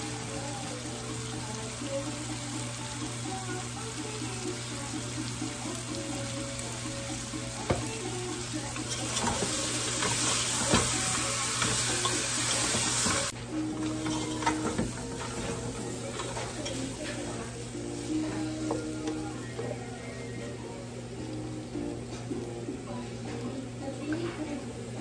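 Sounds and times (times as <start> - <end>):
meat sizzling in a pot: 0.0 - 25.0.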